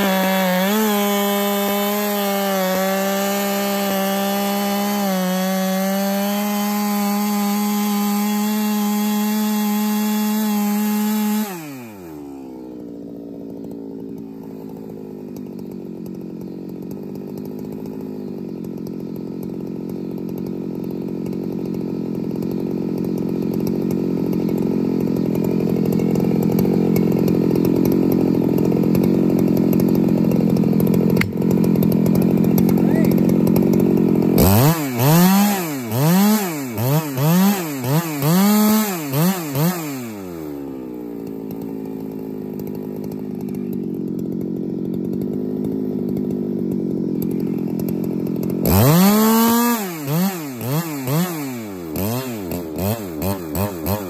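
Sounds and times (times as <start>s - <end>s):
chainsaw engine: 0.0s - 54.0s.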